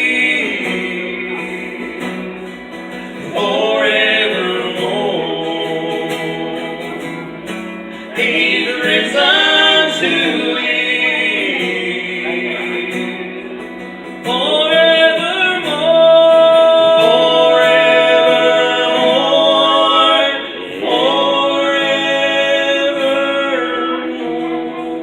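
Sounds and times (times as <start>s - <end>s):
vocal group singing in harmony: 0.0s - 25.0s.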